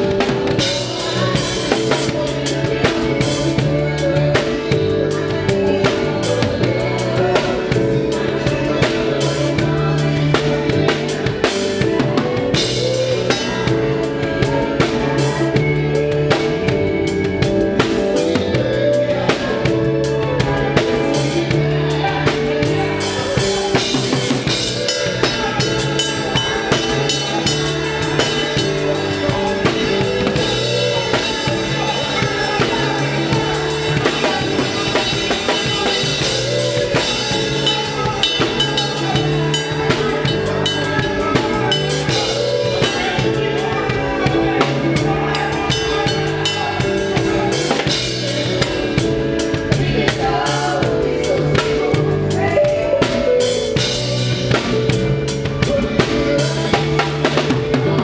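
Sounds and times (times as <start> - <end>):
band playing: 0.0 - 58.0
drum kit groove: 0.0 - 58.0.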